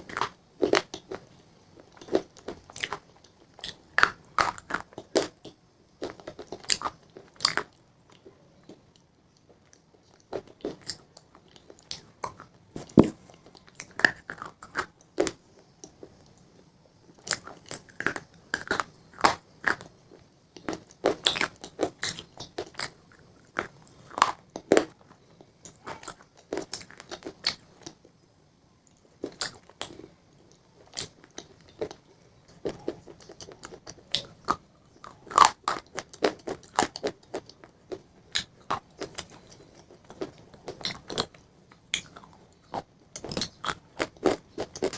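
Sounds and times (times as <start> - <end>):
person chewing crunchy pizza: 0.0 - 16.2, 17.2 - 28.0, 28.9 - 44.9.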